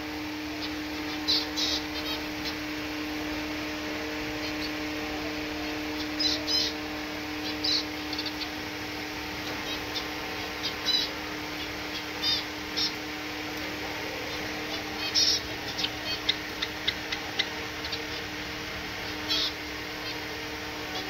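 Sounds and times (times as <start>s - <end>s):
finches chirping: 0.3s - 21.0s.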